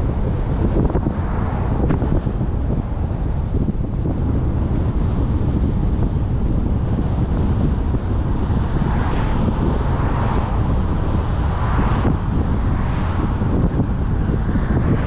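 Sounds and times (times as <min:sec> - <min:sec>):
car driving rumble: 0:00.0 - 0:15.0
wind buffeting microphone: 0:00.0 - 0:15.0.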